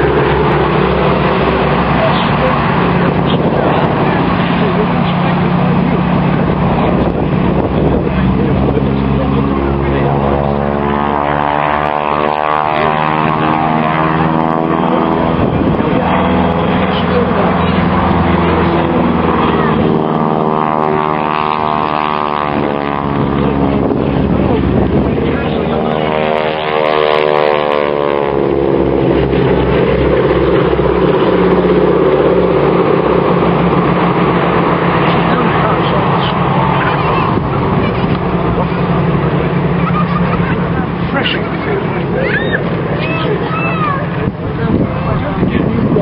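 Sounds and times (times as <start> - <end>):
propeller aircraft engines droning: 0.0 - 46.0.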